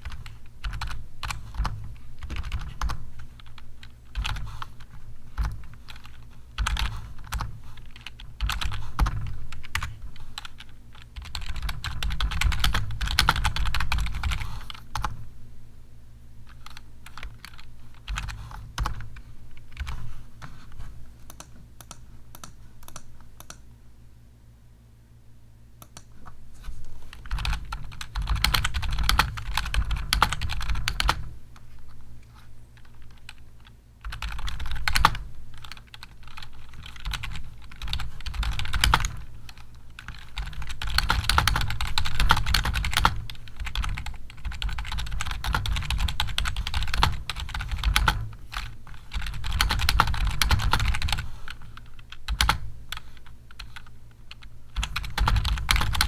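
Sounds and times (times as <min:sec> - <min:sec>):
typing on computer keyboard: 0:00.0 - 0:15.2, 0:16.5 - 0:20.0, 0:21.3 - 0:23.6, 0:27.1 - 0:31.3, 0:34.0 - 0:56.0.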